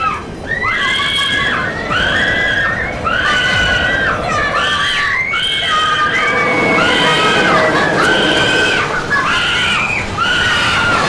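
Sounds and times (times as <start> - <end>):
riders screaming: 0.0 - 11.0
rushing ride soundtrack: 0.0 - 11.0.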